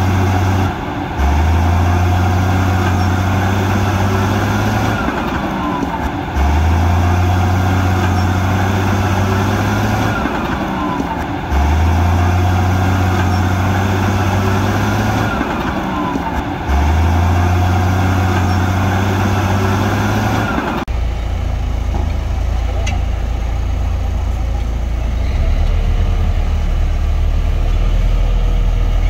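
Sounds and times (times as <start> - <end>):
deep diesel engine drone: 0.0 - 29.0.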